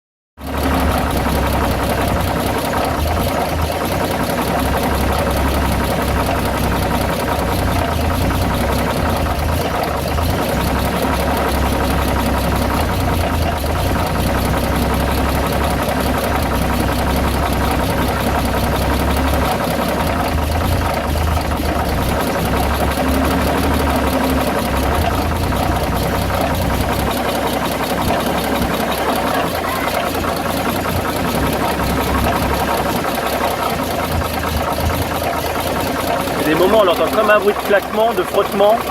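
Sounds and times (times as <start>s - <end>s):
engine running with knocking: 0.4s - 38.9s.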